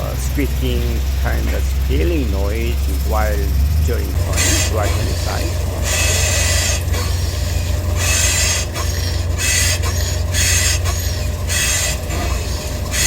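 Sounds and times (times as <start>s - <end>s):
car suspension squeaking: 0.0s - 13.0s
steady low hum: 0.0s - 13.0s.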